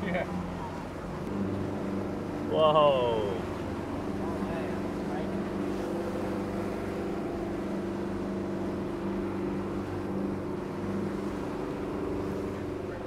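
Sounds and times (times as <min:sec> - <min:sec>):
motorboat engine running: 0:00.0 - 0:13.0.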